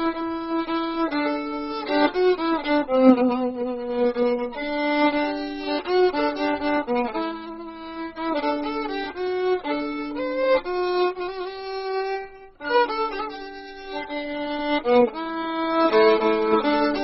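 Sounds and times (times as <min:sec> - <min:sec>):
solo violin melody: 0:00.0 - 0:17.0.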